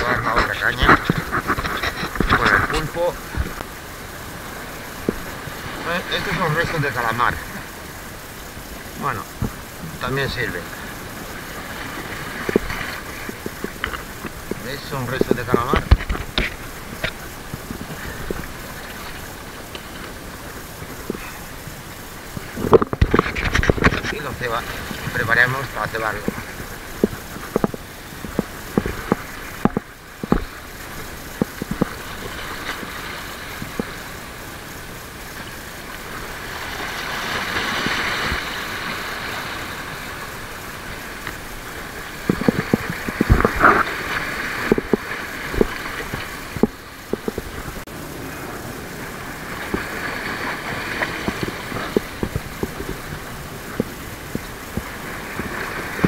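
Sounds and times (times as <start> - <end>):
rough sea washing over rocks: 0.0 - 56.0.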